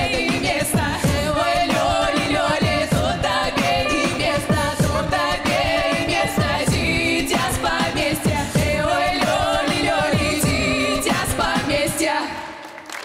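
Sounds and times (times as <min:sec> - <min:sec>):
deep electronic beat: 0:00.0 - 0:12.0
women singing folk-style song: 0:00.0 - 0:12.6.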